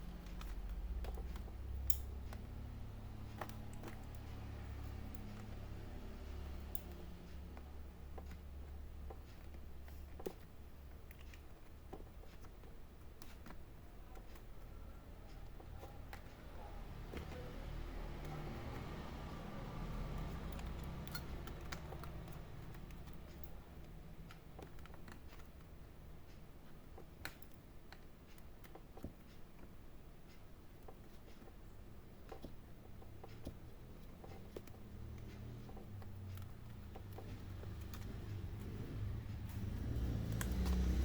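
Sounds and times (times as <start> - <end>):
light clicks of small parts: 0.0 - 41.0
low steady hum: 0.0 - 41.0.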